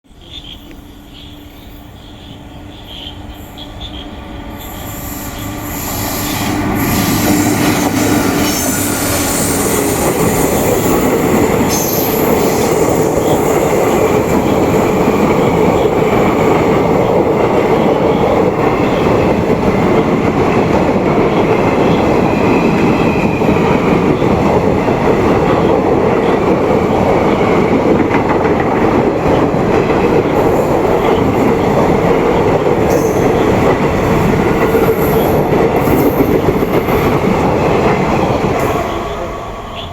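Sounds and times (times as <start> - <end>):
train rumbling past: 0.1 - 39.9
train wheel squeal: 0.3 - 19.3, 21.2 - 24.5, 29.3 - 39.9.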